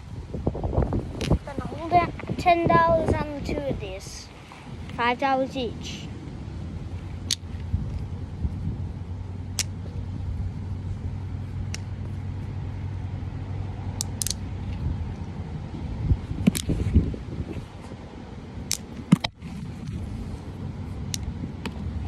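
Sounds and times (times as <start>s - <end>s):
magnetic balls clacking: 0.0s - 4.1s, 7.0s - 15.4s, 16.1s - 17.9s, 18.6s - 22.0s
low rumble: 0.0s - 22.0s.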